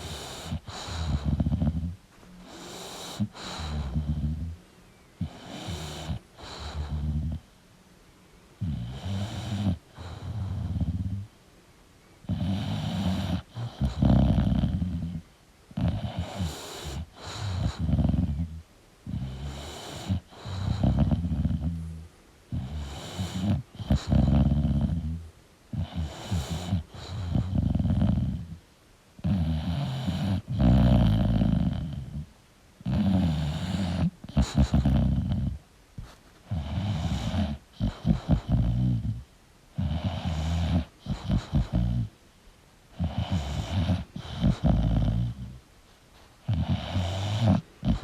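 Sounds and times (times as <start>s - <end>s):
dog snoring: 0.0s - 4.6s, 5.2s - 7.5s, 8.6s - 11.3s, 12.2s - 28.6s, 29.2s - 42.2s, 42.9s - 45.6s, 46.4s - 48.0s.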